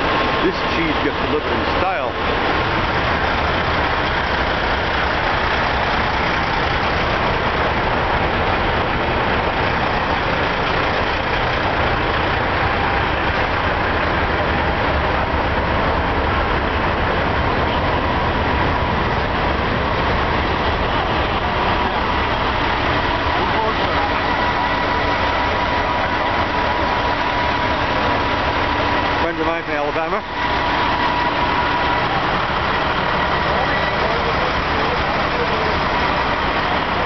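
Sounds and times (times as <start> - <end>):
diesel truck engines idling: 0.0 - 37.0.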